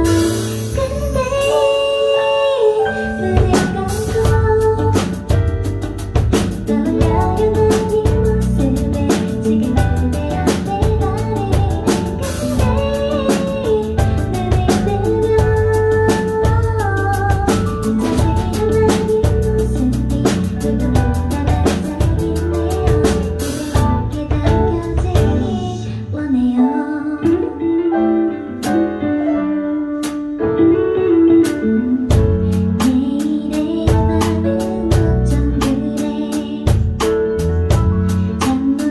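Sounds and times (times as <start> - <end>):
drum kit beat: 0.0 - 2.4, 3.0 - 25.9, 28.5 - 29.3, 29.9 - 30.4, 31.4 - 38.9
woman singing pop ballad: 0.0 - 30.0, 30.6 - 38.9
bass: 0.0 - 38.9.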